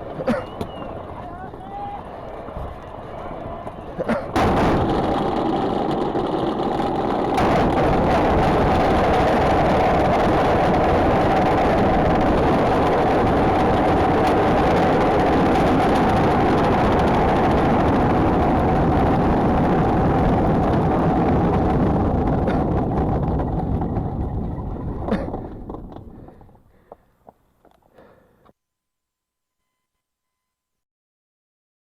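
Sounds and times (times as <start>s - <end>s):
rushing wind noise: 0.0s - 26.6s.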